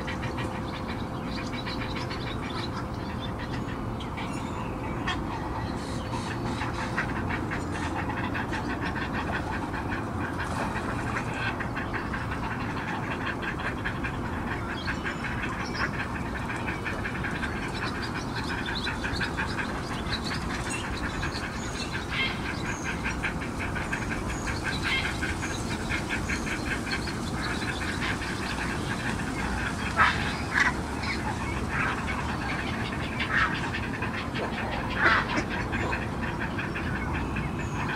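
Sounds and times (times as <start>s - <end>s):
ducks quacking: 0.0s - 37.9s
low background rumble: 0.0s - 37.9s.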